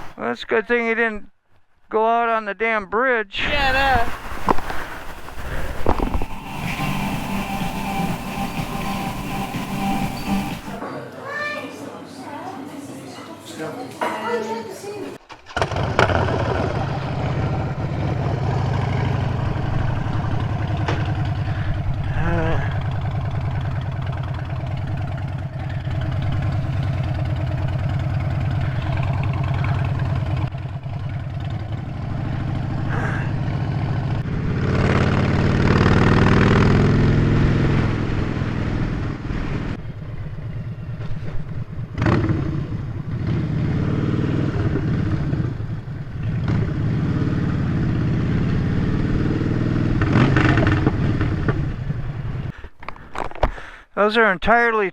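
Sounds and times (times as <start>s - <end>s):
motorcycle engine accelerating: 3.5s - 10.8s, 15.4s - 52.5s.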